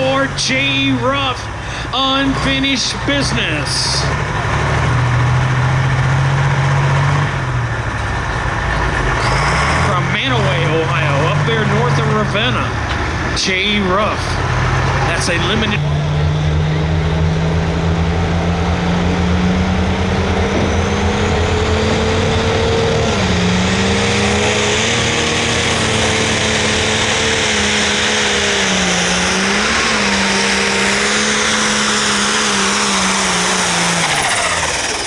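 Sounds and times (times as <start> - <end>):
tractor diesel engine at full throttle: 0.0 - 35.0.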